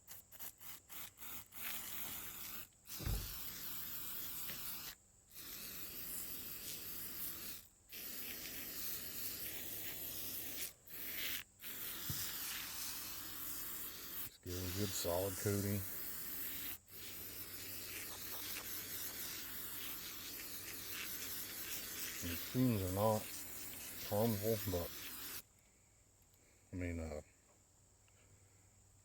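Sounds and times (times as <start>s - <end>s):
aerosol can spraying: 0.0s - 25.4s.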